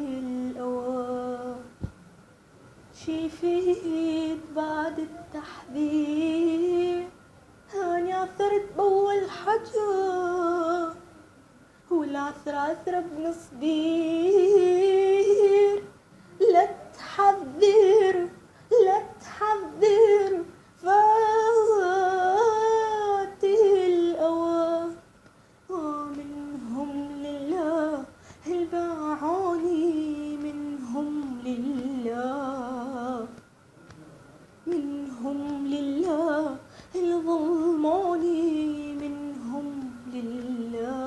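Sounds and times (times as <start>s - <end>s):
girl singing unaccompanied: 0.0s - 2.0s, 2.9s - 33.6s, 34.6s - 41.0s.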